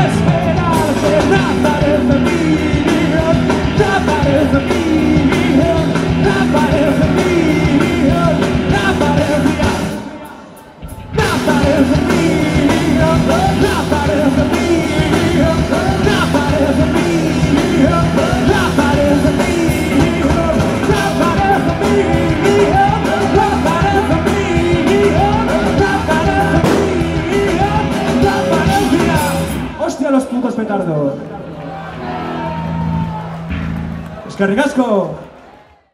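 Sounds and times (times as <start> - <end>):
bass guitar: 0.0 - 10.1, 10.7 - 29.9, 31.7 - 34.4
electric guitars: 0.0 - 30.0
lead singer: 0.0 - 30.1
drums: 0.0 - 30.4, 31.9 - 34.9.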